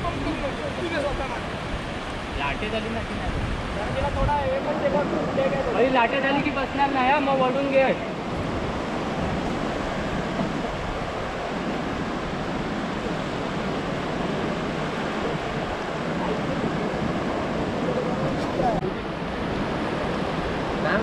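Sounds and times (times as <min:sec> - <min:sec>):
ocean surf breaking: 0:00.0 - 0:21.0
wind: 0:00.0 - 0:21.0.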